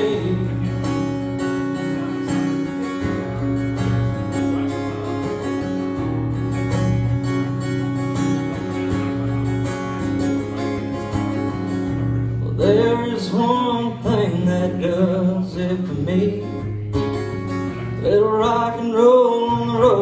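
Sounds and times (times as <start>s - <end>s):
strummed acoustic guitar chords: 0.0s - 20.0s.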